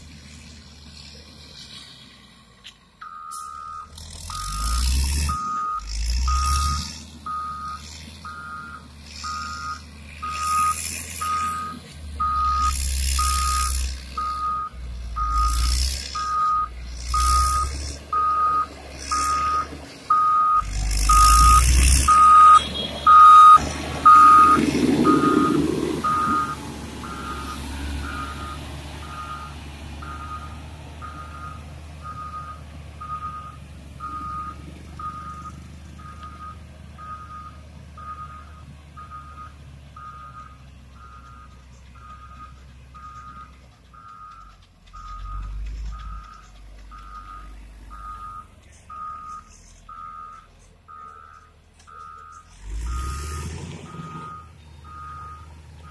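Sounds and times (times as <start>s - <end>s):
diesel engine running: 0.0s - 55.9s
reversing alarm beeping: 3.0s - 55.9s.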